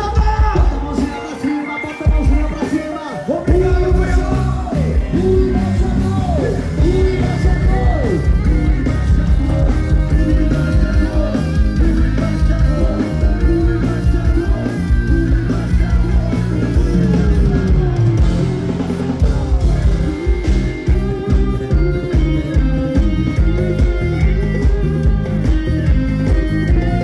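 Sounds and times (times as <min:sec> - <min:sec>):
live band playing: 0:00.0 - 0:27.0.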